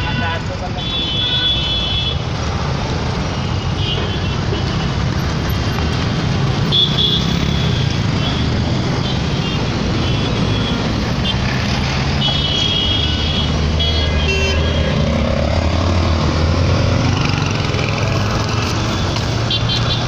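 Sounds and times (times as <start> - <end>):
traffic engine rumble: 0.0 - 20.0.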